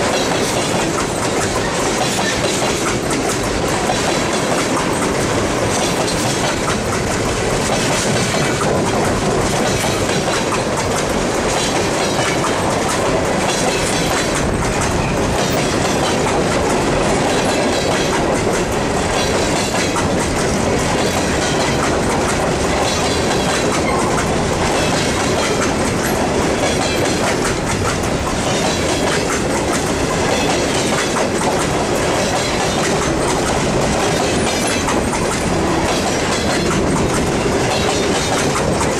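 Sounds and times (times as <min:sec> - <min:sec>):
freight train cars rolling past: 0:00.0 - 0:38.9
wheels clicking on rails: 0:00.0 - 0:38.9.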